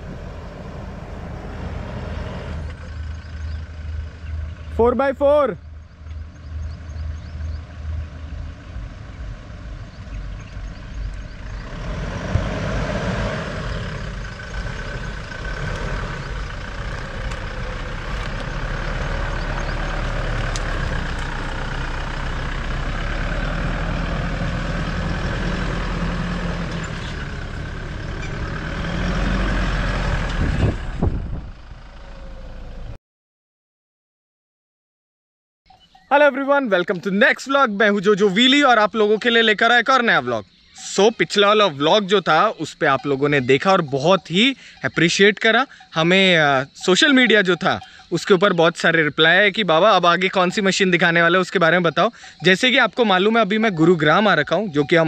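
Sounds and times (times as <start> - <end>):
road noise: 0.0 - 33.0, 35.7 - 55.0
truck engine rumbling: 0.0 - 33.0, 35.7 - 55.0.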